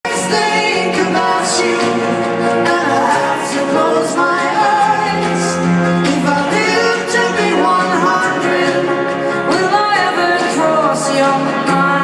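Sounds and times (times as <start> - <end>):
voices singing in harmony: 0.0 - 12.0.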